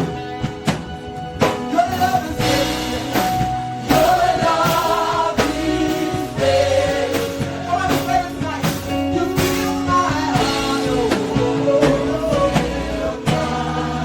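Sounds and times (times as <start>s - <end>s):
bass: 0.0s - 14.0s
singers holding long notes: 0.0s - 14.0s
steady drum beat: 0.0s - 14.0s.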